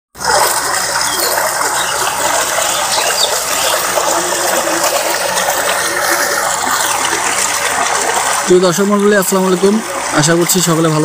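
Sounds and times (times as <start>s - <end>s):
water gushing into concrete channel: 0.1s - 11.0s.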